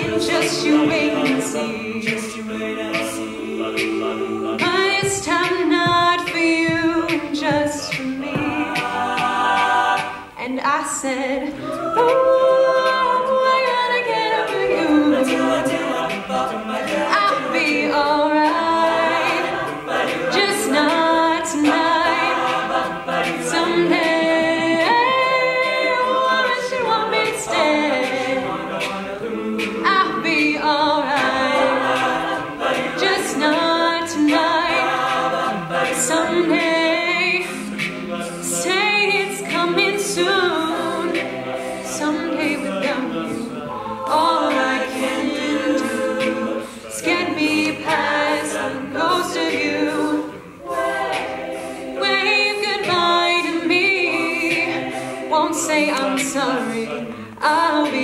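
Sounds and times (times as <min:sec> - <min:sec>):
backing voices in harmony: 0:00.0 - 0:58.0.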